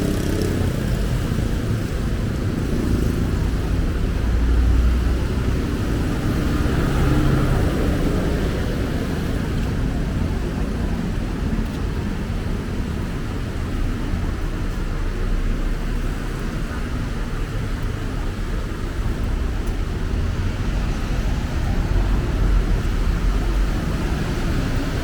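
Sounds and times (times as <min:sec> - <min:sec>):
low traffic rumble: 0:00.0 - 0:25.0
passing vehicle engines: 0:00.0 - 0:25.0.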